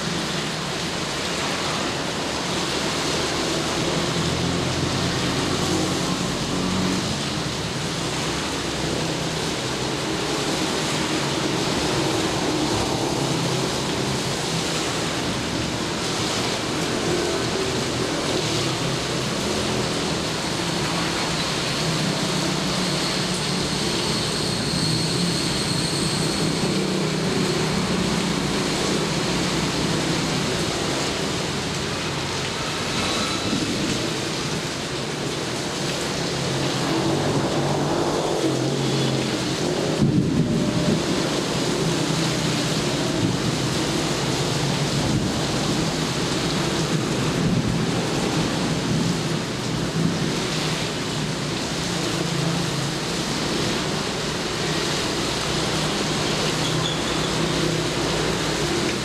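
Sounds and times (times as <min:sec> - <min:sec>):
heavy rainfall: 0:00.0 - 0:59.0.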